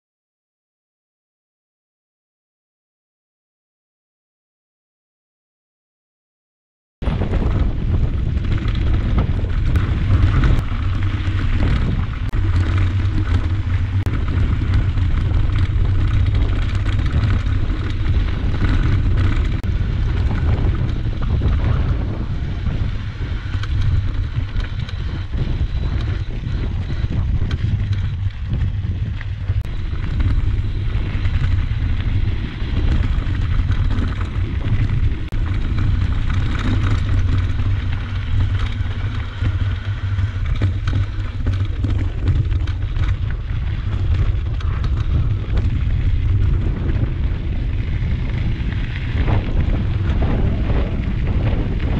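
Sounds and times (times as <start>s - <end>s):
wind buffeting microphone: 7.0s - 51.9s.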